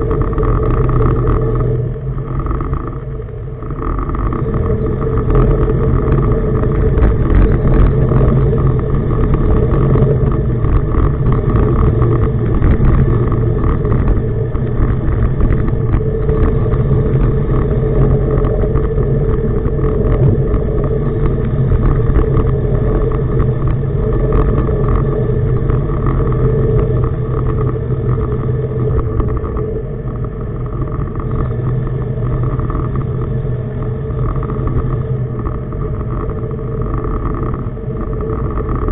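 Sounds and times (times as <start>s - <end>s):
boat diesel engine rumbling: 0.0s - 38.9s.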